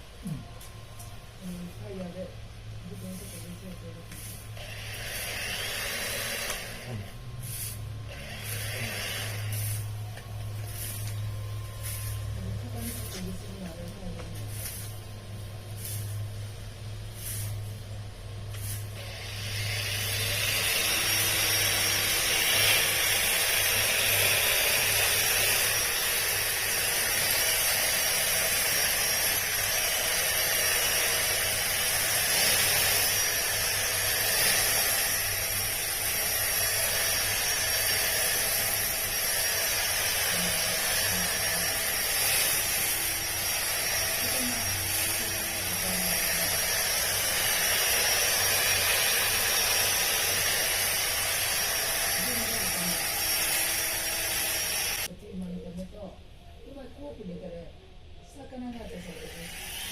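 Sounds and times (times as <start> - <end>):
string trimmer cutting grass: 3.1 - 15.0, 18.5 - 55.1, 59.0 - 59.9.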